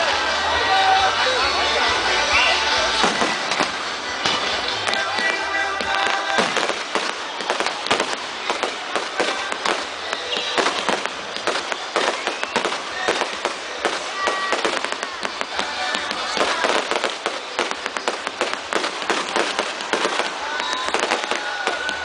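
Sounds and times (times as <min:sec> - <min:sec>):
firecrackers banging: 0:02.7 - 0:22.0.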